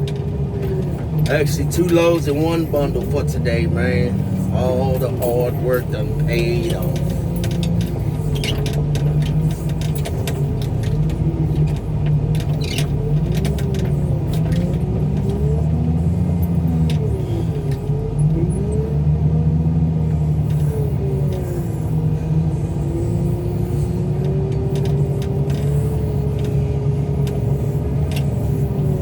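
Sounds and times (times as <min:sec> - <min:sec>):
rattles and clicks: 0:00.0 - 0:18.8, 0:20.0 - 0:29.0
heavy engine running under load: 0:00.0 - 0:29.0.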